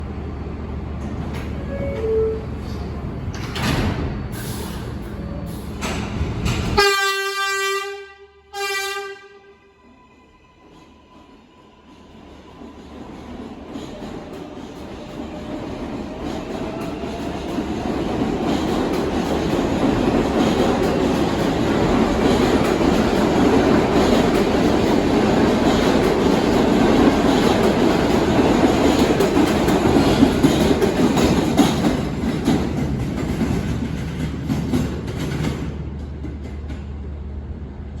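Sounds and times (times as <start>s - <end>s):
subway train wheel-on-rail noise: 0.0s - 38.0s.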